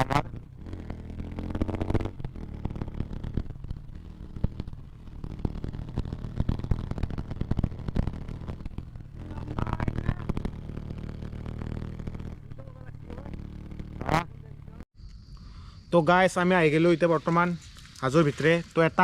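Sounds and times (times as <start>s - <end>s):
motorcycle engine at low revs: 0.0s - 18.4s.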